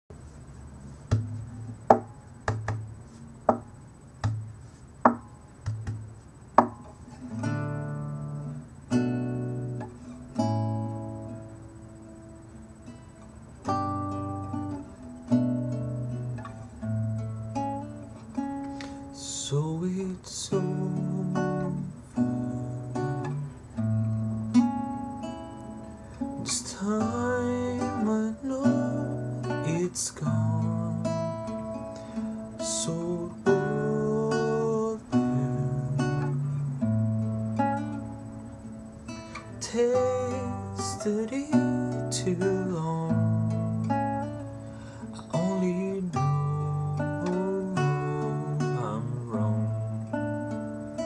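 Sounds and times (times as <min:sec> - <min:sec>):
acoustic guitar playing: 0:00.2 - 0:51.0.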